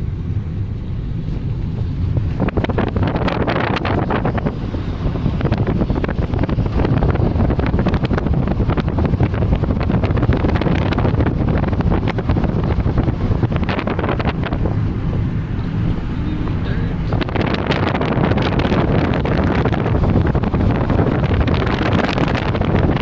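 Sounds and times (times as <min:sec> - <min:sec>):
vehicle road rumble: 0:00.0 - 0:23.0
wind rushing over microphone: 0:00.0 - 0:23.0.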